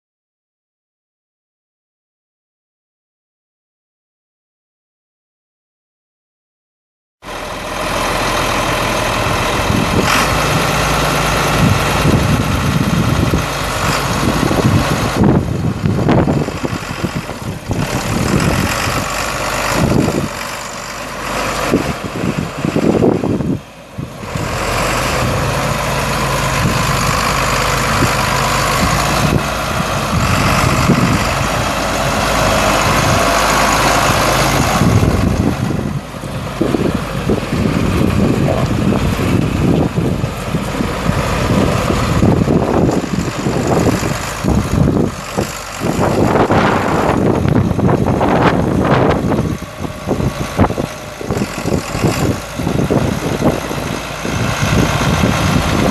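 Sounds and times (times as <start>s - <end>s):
tractor diesel engine driving past: 7.2s - 55.9s.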